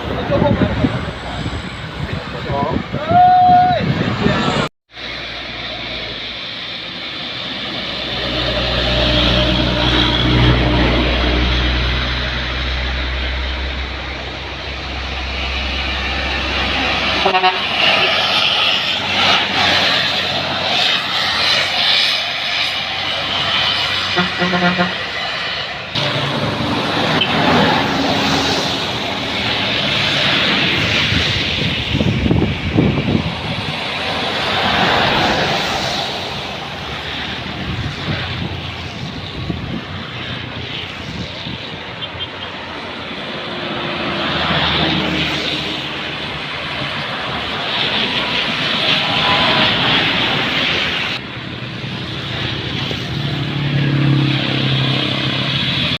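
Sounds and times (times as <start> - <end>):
traffic and road noise: 0.0 - 56.0
truck engine hum: 3.9 - 56.0.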